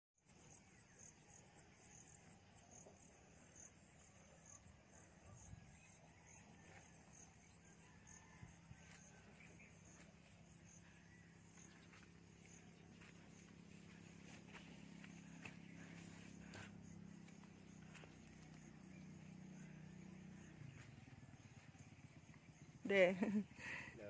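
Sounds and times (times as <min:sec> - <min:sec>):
insect chirping: 0:00.3 - 0:24.0.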